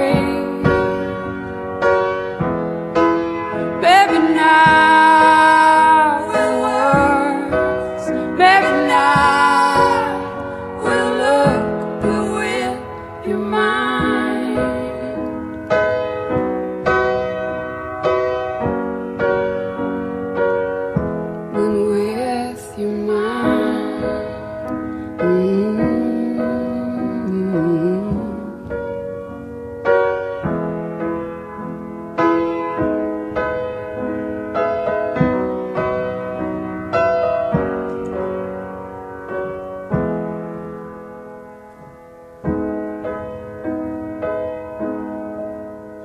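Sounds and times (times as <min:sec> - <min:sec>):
piano playing slow chords: 0:00.0 - 0:46.0.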